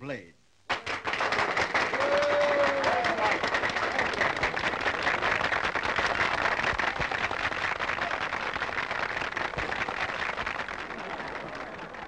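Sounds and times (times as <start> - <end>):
crowd applauding: 0.7 - 12.0.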